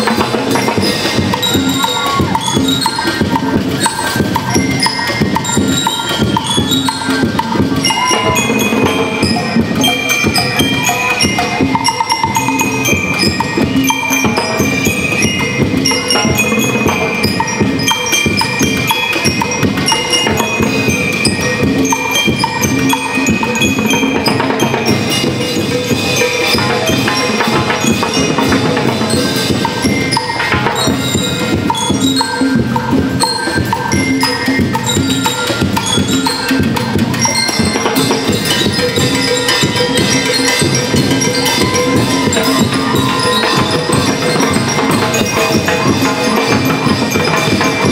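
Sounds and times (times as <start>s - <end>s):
bell lyres playing melody: 0.0s - 47.9s
steady drum beat: 0.0s - 47.9s.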